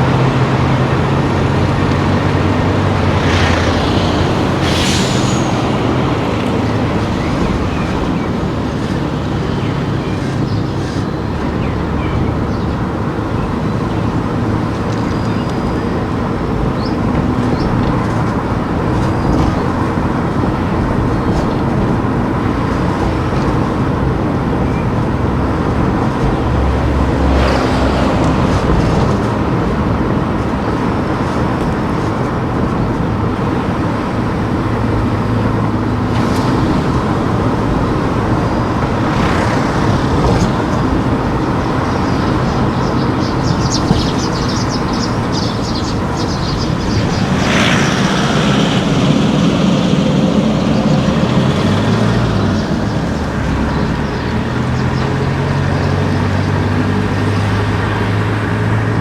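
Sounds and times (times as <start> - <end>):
vehicle passing: 0.0 - 14.9, 17.4 - 59.0
car engine and tyre noise: 0.0 - 59.0.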